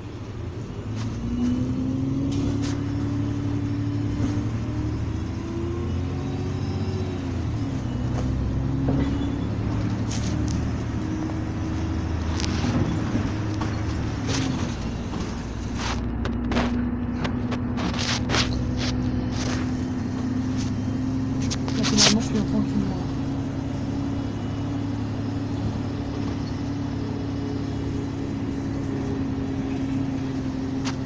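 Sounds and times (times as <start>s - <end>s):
bus diesel engine idling: 0.0s - 31.0s.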